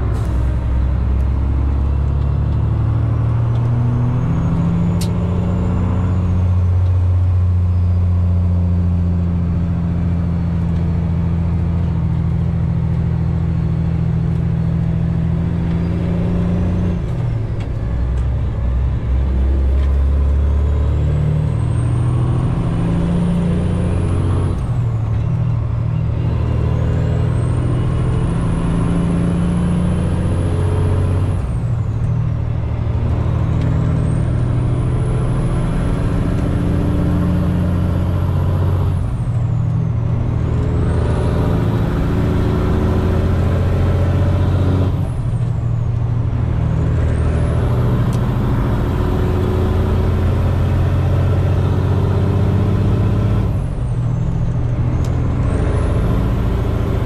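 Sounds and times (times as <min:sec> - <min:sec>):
truck diesel engine: 0:00.0 - 0:57.0.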